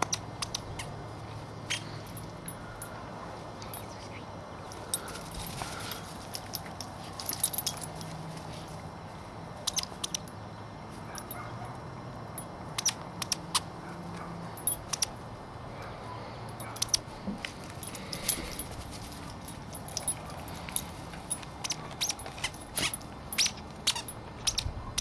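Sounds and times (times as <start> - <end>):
dog tags jingling: 1.7 - 8.8, 9.6 - 13.7, 14.4 - 15.2, 16.3 - 25.0.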